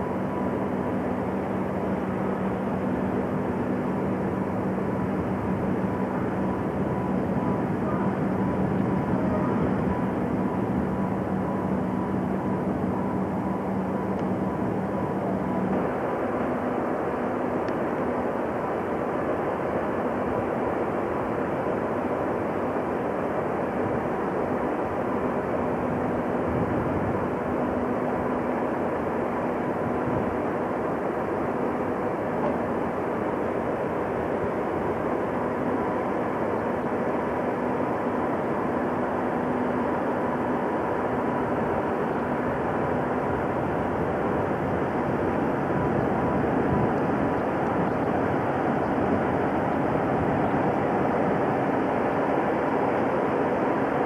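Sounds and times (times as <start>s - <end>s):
heavy machinery drone: 0.0s - 54.0s.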